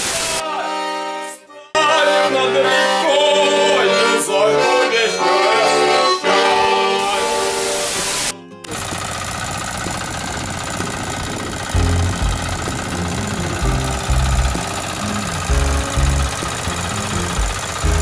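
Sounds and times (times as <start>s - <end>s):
accordion music: 0.0s - 18.0s.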